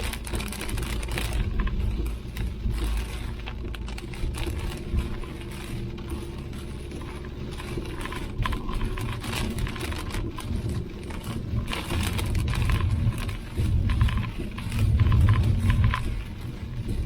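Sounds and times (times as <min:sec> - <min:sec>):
car tyres and engine rumble: 0:00.0 - 0:17.0
ticks and rattles: 0:00.0 - 0:17.0.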